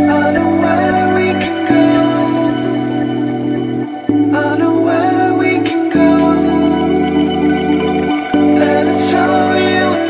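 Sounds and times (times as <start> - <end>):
instrumental music with held chords: 0.0 - 10.0.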